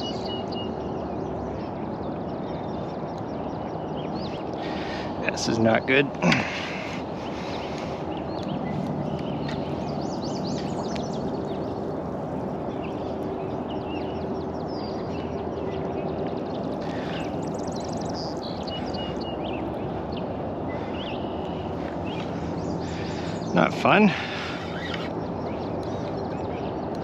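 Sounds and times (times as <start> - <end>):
birds chirping: 0.0 - 27.0
low outdoor rush: 0.0 - 27.0.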